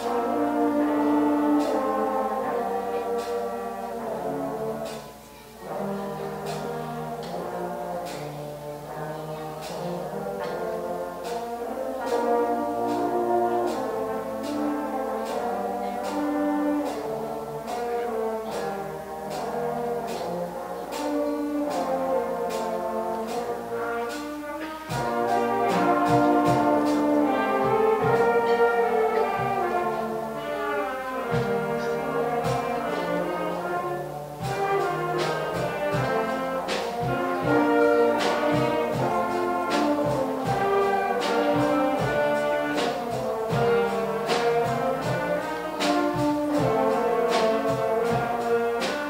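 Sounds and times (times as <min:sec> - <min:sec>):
brass chords: 0:00.0 - 0:49.0.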